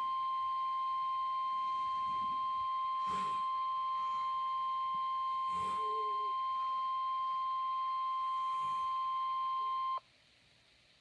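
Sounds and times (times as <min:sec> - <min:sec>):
steady high alarm beep: 0:00.0 - 0:10.0.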